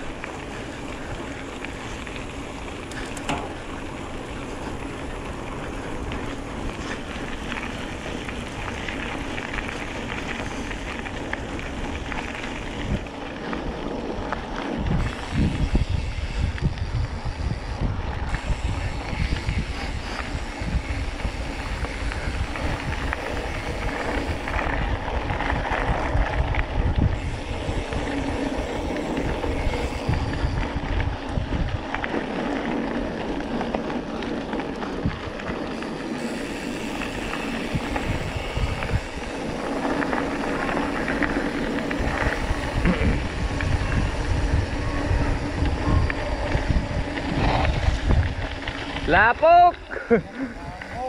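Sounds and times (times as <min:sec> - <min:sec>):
bike rattling over bumps: 0:00.0 - 0:51.0
bike tyre noise on gravel: 0:00.0 - 0:51.0
wind buffeting microphone: 0:00.0 - 0:51.0.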